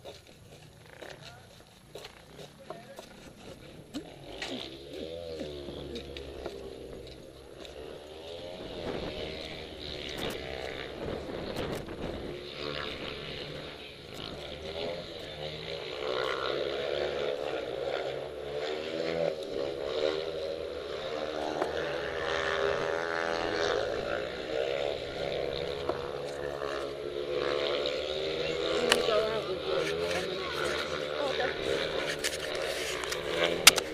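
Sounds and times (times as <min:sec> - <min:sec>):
motorcycle engines revving: 0:00.0 - 0:33.9.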